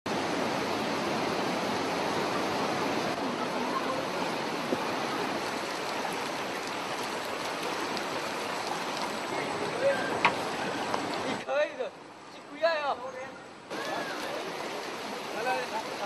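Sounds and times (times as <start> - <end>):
floodwater rushing and churning: 0.1 - 12.3, 13.6 - 16.0.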